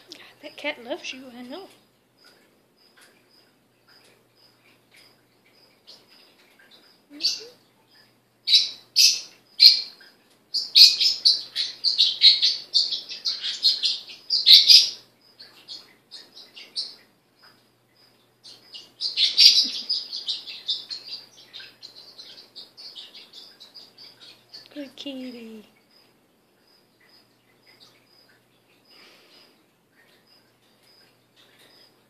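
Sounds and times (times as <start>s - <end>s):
bird chirping and twittering: 0.0s - 32.0s.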